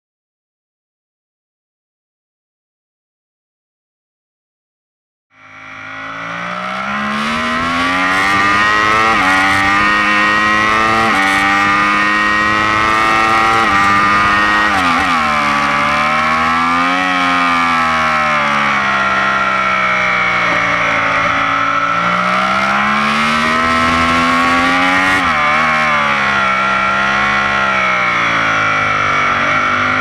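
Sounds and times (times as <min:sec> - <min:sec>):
motorcycle engine accelerating: 0:05.4 - 0:30.0
wind and tyre noise: 0:05.9 - 0:30.0.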